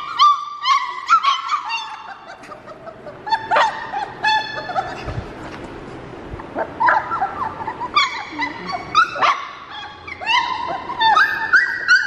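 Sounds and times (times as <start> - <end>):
puppies whimpering and yipping: 0.0 - 5.8, 6.4 - 12.0.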